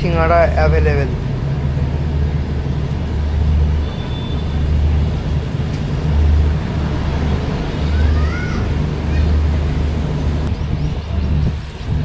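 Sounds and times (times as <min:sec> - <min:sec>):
train rumbling along track: 0:00.0 - 0:10.6.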